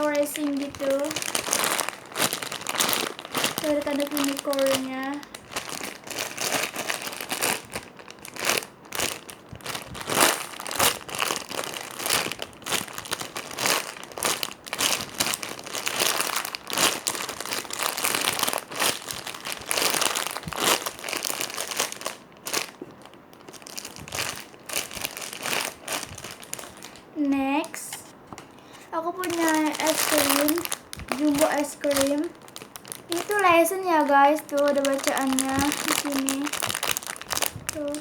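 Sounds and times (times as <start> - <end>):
squishy toy crackling in hands: 0.0 - 28.0, 28.9 - 38.0.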